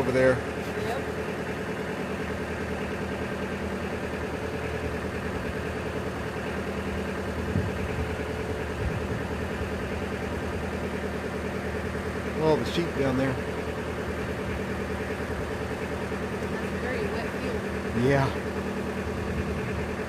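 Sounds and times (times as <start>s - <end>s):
diesel boat engine running: 0.0s - 20.0s.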